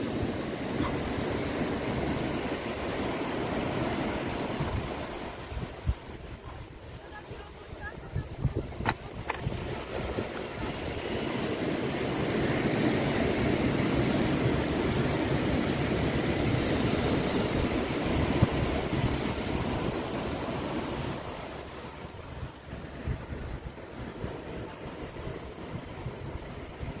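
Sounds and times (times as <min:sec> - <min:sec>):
ocean surf washing ashore: 0:00.0 - 0:27.0.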